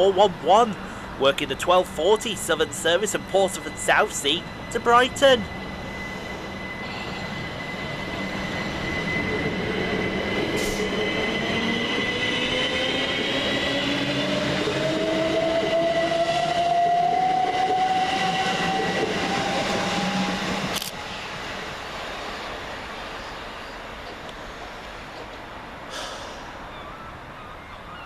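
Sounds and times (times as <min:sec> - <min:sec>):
electric train motor whine: 0:02.0 - 0:25.3.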